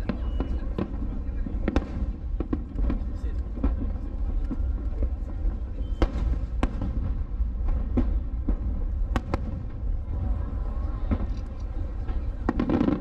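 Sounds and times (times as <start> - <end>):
fireworks bangs: 0.0 - 13.0
low rumble: 0.8 - 13.0.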